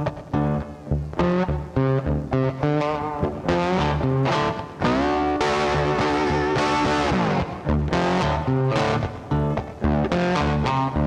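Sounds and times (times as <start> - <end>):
distorted electric guitar music: 0.0 - 11.0.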